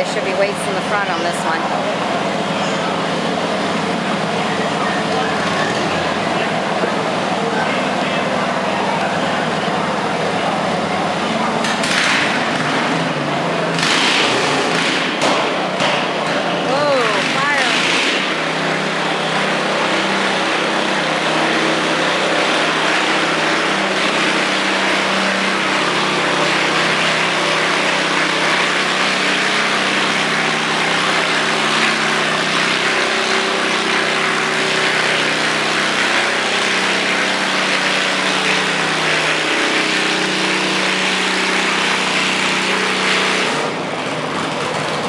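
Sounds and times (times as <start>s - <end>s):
riding lawn mower engine: 0.0s - 45.0s.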